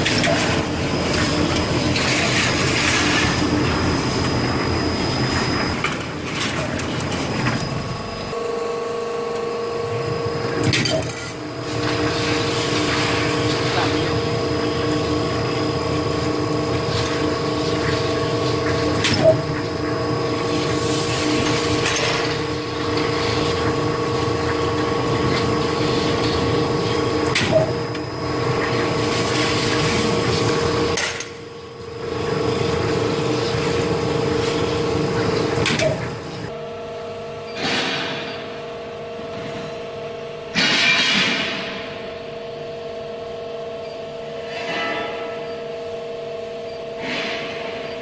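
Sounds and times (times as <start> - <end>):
roll forming machine humming: 0.0 - 48.0.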